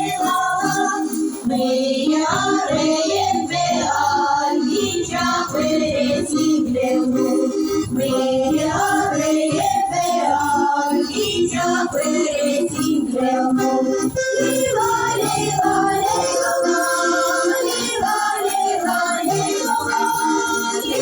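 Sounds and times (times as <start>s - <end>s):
instrumental accompaniment: 0.0s - 21.0s
jingling percussion: 0.0s - 21.0s
voices singing: 0.0s - 21.0s.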